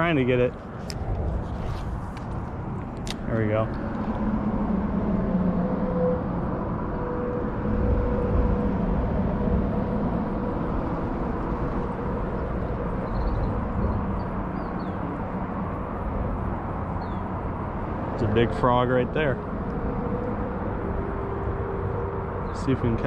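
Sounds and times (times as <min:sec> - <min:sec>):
faint hum tones: 0:00.0 - 0:23.0
outdoor background rumble: 0:00.0 - 0:23.0.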